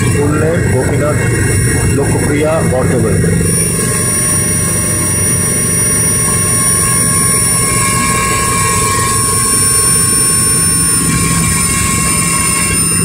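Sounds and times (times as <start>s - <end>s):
helicopter rotor and engine drone: 0.0s - 13.0s
turbine whine: 0.0s - 13.0s.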